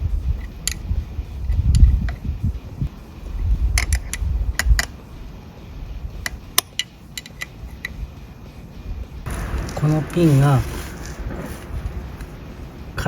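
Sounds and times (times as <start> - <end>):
low handling bumps: 0.0 - 13.0.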